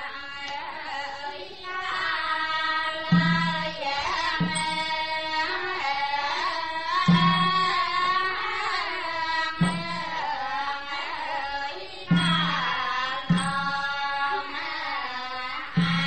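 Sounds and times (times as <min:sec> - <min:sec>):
wavering sung melody: 0:02.8 - 0:16.0.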